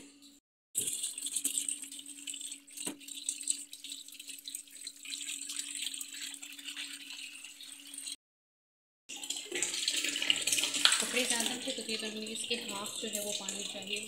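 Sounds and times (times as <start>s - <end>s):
hose water splashing into plastic tub: 0.8s - 8.2s, 9.1s - 14.0s.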